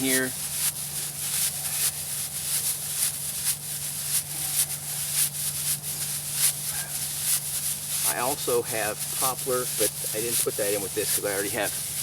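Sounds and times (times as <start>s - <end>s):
dry bark rustling and crackling: 0.0s - 12.0s.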